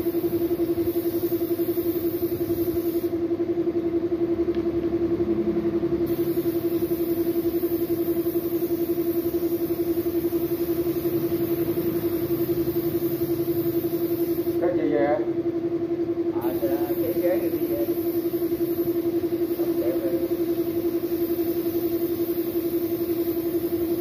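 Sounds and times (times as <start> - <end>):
paint spray gun hissing: 0.0 - 3.2, 6.0 - 14.6, 16.4 - 24.0
air compressor pulsing hum: 0.0 - 24.0.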